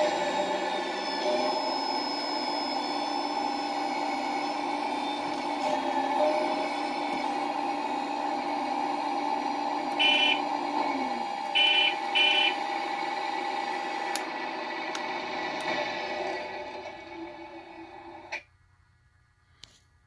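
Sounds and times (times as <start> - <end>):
simulated diesel engine hum: 0.0 - 18.5.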